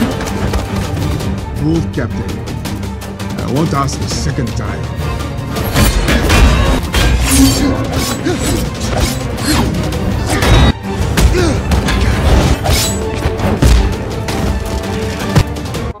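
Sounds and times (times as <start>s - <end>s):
action soundtrack music: 0.0s - 16.0s.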